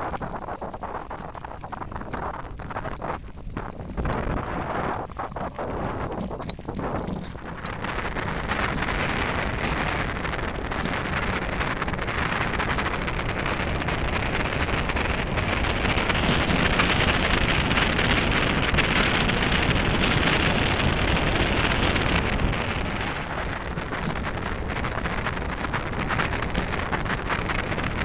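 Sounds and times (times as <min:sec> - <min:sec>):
bike tyres rolling on gravel: 0:00.0 - 0:28.0
wind buffeting microphone: 0:00.0 - 0:28.0.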